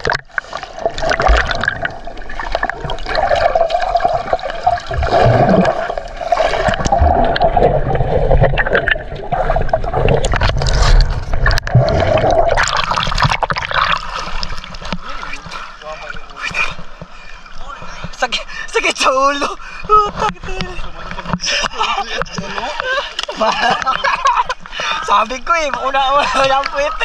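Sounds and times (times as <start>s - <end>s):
water rushing and gurgling underwater: 0.0s - 18.7s, 19.5s - 25.7s
water splashing: 0.0s - 27.0s.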